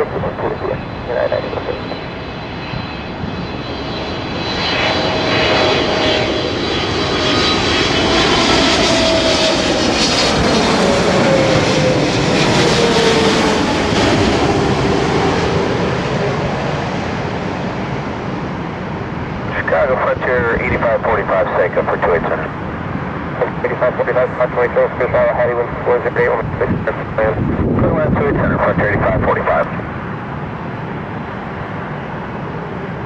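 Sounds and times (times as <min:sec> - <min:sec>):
jet engine whine falling in pitch: 0:00.0 - 0:33.0
jet engines rushing on landing: 0:00.0 - 0:33.0.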